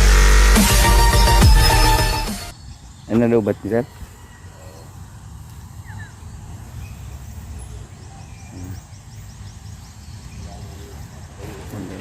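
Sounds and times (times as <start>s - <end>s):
bird chirping: 1.6s - 12.0s.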